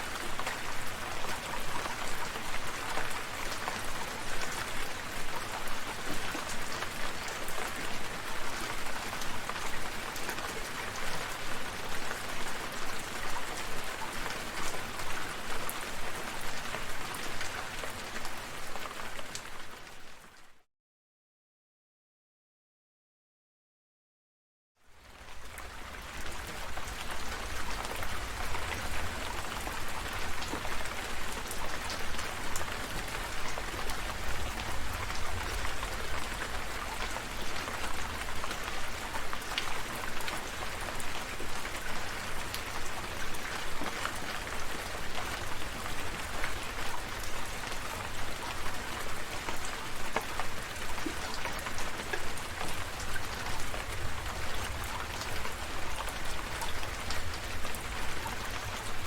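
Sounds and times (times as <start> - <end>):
steady rain falling: 0.0 - 20.6, 24.8 - 59.0.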